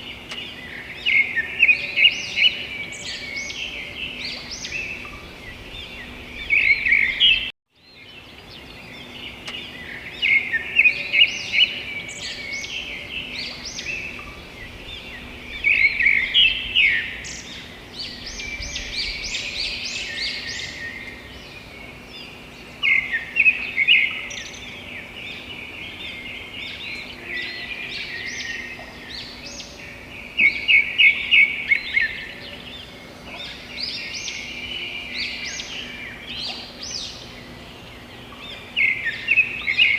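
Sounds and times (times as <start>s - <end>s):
faint hum: 0.0s - 7.5s, 8.2s - 39.9s
background hiss: 0.0s - 39.9s
birds chirping: 0.0s - 39.9s.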